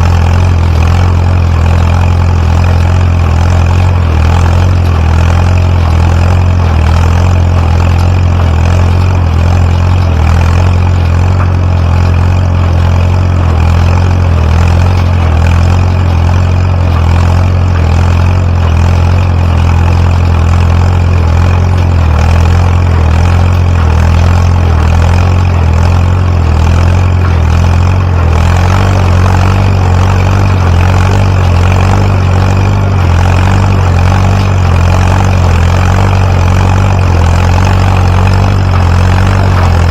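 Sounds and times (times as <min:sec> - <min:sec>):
tractor engine humming: 0:00.0 - 0:39.9.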